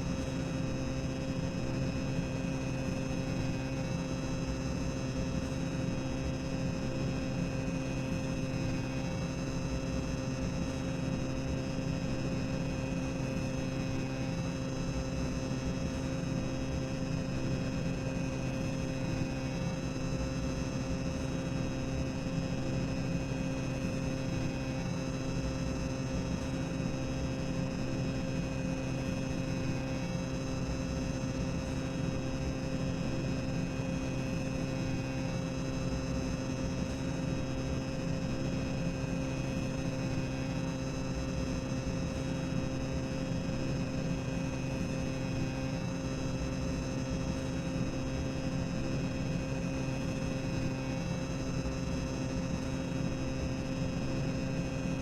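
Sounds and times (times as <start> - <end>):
constant hum: 0.0 - 55.0.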